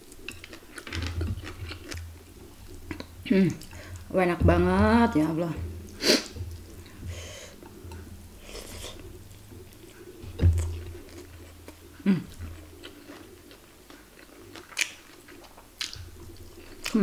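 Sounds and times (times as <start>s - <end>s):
person chewing food: 0.0s - 4.1s, 5.6s - 17.0s.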